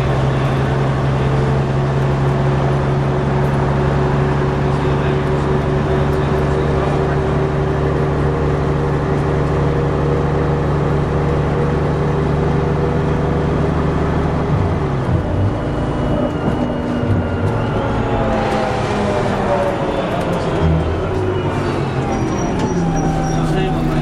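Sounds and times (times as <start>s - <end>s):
diesel bus engine running: 0.0s - 24.0s.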